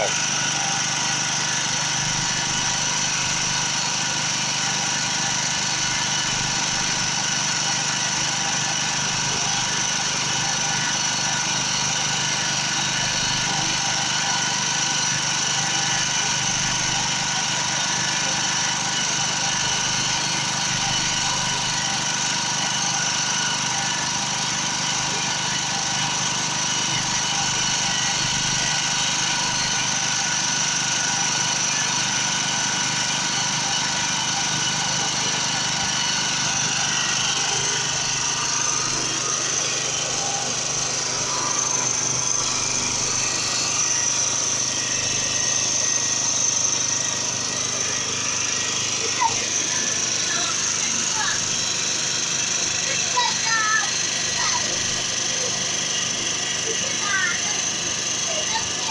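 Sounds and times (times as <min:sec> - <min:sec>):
generator engine running: 0:00.0 - 0:58.9.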